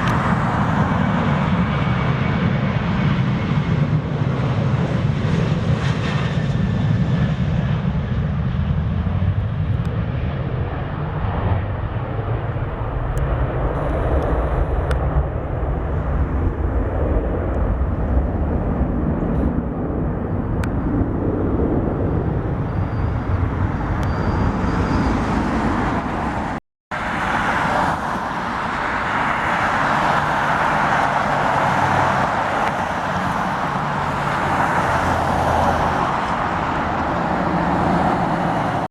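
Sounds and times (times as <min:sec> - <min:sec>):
jet engine low rumble: 0:00.0 - 0:38.9.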